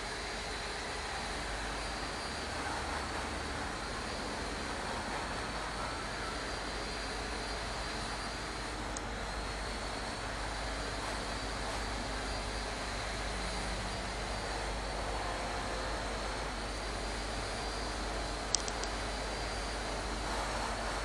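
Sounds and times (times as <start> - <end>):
diesel train droning: 0.0 - 21.0.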